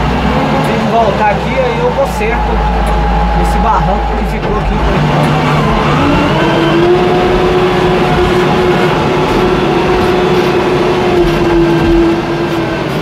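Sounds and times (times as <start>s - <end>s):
diesel engine running under load: 0.0s - 13.0s
steady machine whine: 0.0s - 13.0s.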